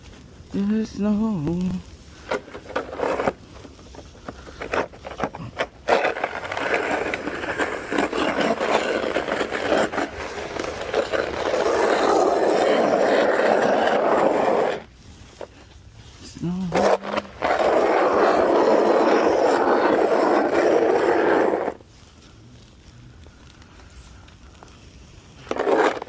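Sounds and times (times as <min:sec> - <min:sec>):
snow shovel scraping pavement: 0:00.0 - 0:22.4, 0:24.9 - 0:26.0.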